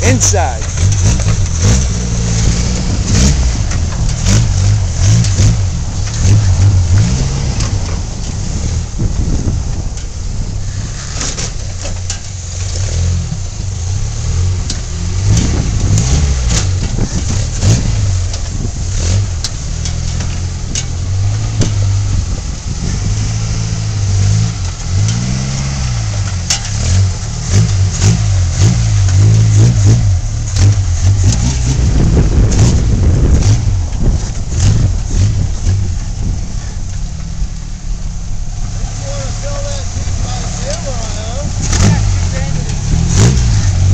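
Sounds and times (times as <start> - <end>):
engine revs rising and falling: 0.0 - 9.9, 12.5 - 37.5, 38.1 - 43.9.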